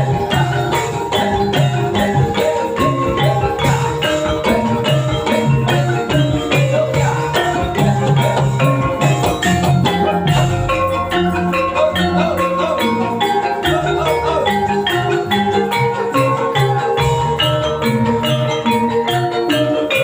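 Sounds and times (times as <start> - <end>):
gamelan metal percussion music: 0.0 - 20.0.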